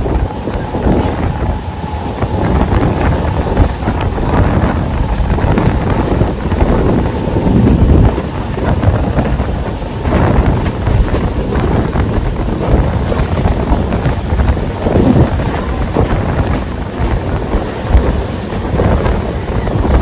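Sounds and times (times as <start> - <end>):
electric train rumbling: 0.0 - 20.0
wind buffeting microphone: 0.0 - 20.0.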